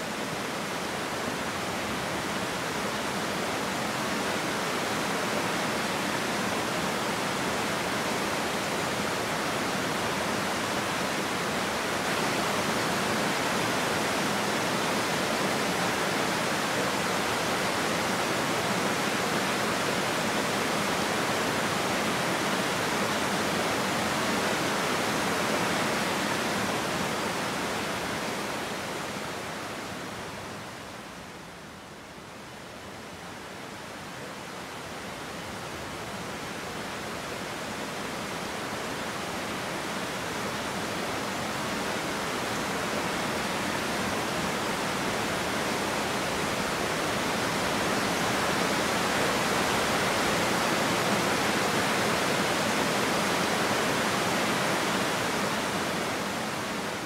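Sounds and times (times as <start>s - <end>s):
waterfall over rocks: 0.0s - 57.0s.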